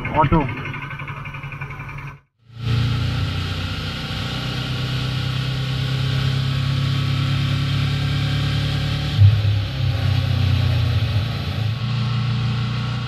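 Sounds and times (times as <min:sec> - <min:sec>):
motorcycle engine running: 0:00.3 - 0:13.0.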